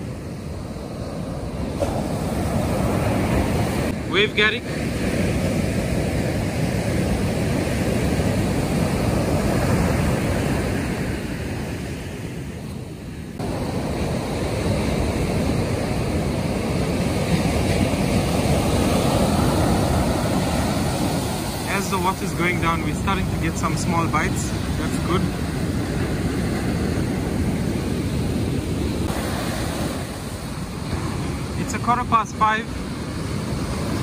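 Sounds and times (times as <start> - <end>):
surf breaking on beach: 0.0 - 34.0.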